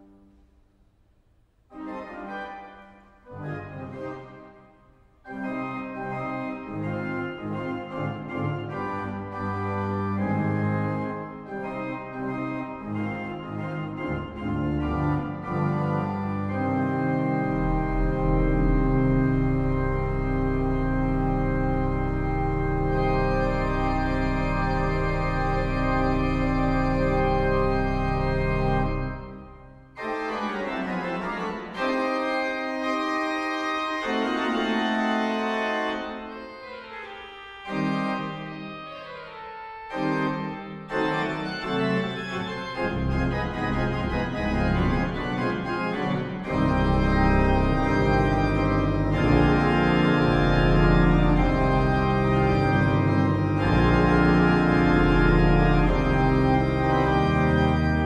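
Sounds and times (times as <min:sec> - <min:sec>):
pipe organ playing: 0:01.7 - 0:58.0.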